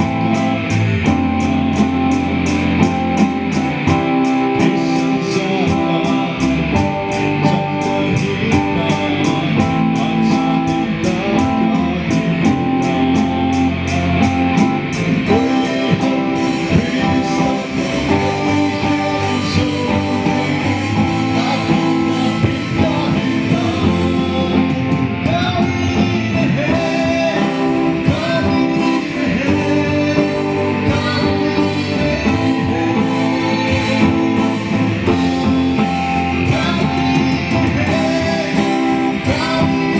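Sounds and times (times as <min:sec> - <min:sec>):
live band music with guitar: 0:00.0 - 0:39.9
person singing: 0:00.0 - 0:39.9.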